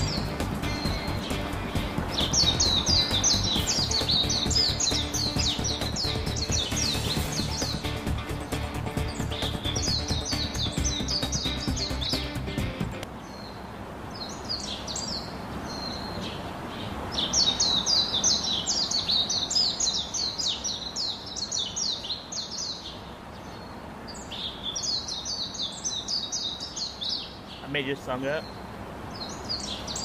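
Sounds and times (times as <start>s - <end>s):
birds chirping: 0.0s - 30.0s
steady background hiss: 0.0s - 30.0s.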